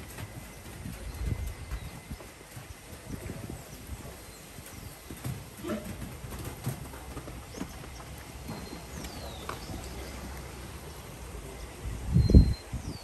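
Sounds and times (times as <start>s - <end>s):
wind buffeting microphone: 0.0s - 10.6s, 11.2s - 13.0s
horse hooves on sand: 0.0s - 11.9s.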